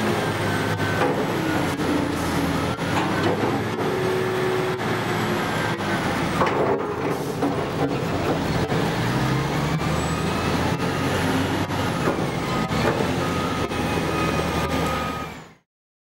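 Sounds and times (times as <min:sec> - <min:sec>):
log loader engine droning: 0:00.0 - 0:15.6.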